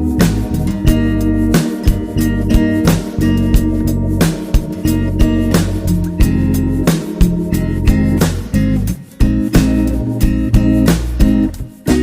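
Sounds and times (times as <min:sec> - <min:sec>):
bass and drum beat: 0:00.0 - 0:12.0
plucked guitar: 0:00.0 - 0:12.0.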